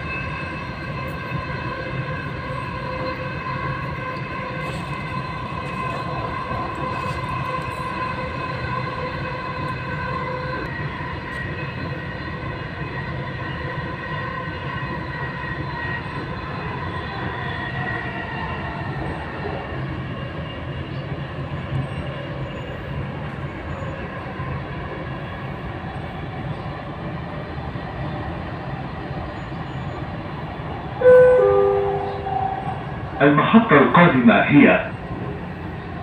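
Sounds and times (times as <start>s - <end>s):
multi-tone train whine: 0.0s - 36.0s
train low rumble: 0.0s - 36.0s.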